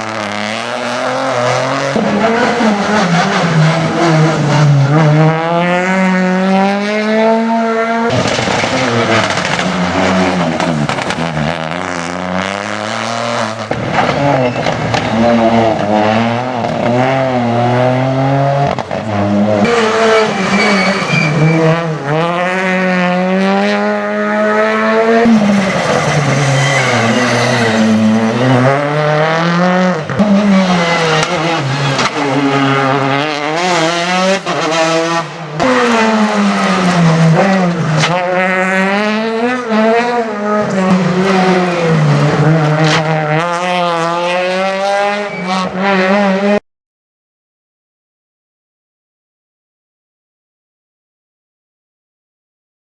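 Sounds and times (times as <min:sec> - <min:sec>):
rally car engines revving hard: 0:00.0 - 0:46.6.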